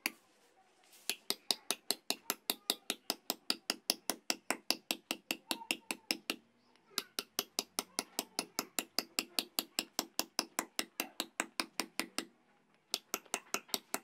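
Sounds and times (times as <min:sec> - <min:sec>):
hammer tapping chisel on stone: 0:01.1 - 0:06.4, 0:07.0 - 0:12.3, 0:12.9 - 0:14.0.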